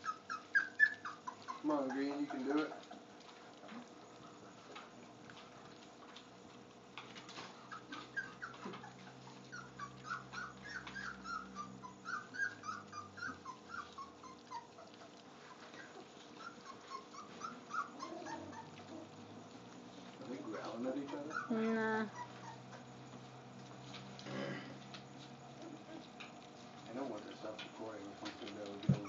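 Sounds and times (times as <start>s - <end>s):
puppies whimpering: 0.0s - 4.8s, 7.3s - 23.4s, 25.4s - 29.0s.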